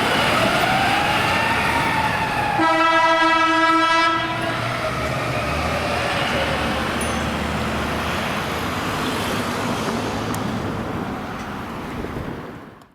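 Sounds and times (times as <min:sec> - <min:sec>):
fire engine driving past: 0:00.0 - 0:12.7.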